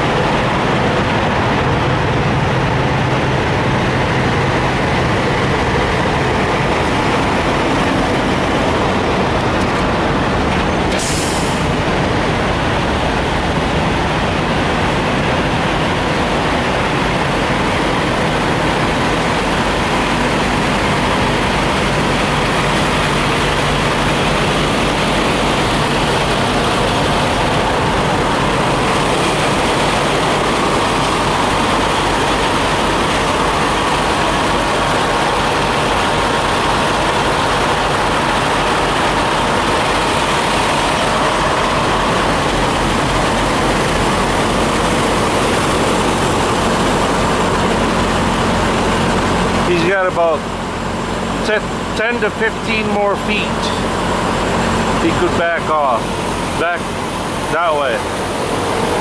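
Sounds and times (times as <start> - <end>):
diesel trucks idling: 0.0 - 59.0.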